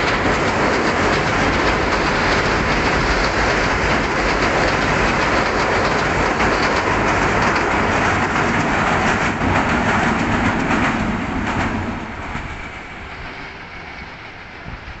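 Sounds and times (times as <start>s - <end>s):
train wheels clattering over rail joints: 0.0s - 14.3s.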